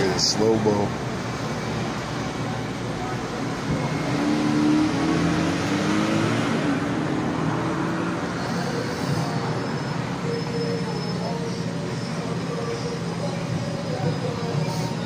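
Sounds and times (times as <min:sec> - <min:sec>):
steady road noise: 0:00.0 - 0:15.0
vehicle driving by: 0:01.0 - 0:15.0.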